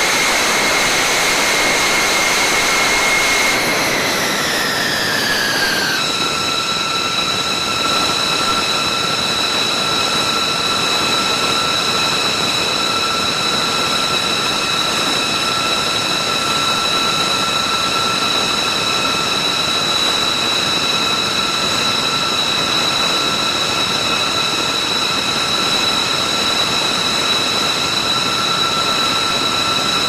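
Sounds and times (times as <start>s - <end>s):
high jet engine whine: 0.0s - 30.0s
jet engines roaring: 0.0s - 30.0s.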